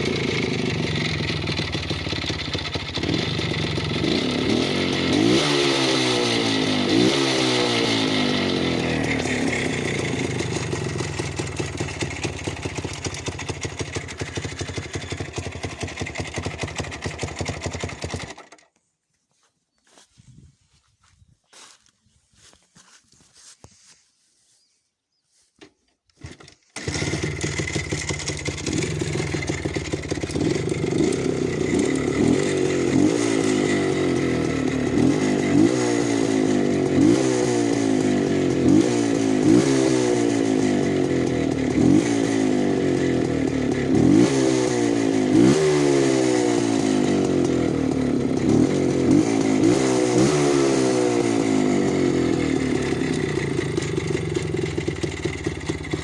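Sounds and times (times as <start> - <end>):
two-stroke motorcycle engine revving: 0.0 - 18.6, 26.1 - 56.0.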